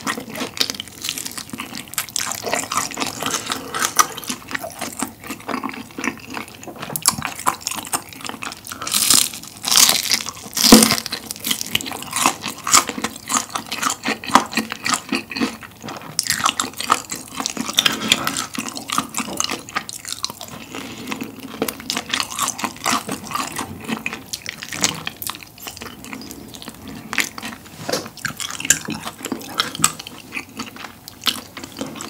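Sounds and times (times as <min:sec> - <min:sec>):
wet chewing: 0:00.0 - 0:32.0.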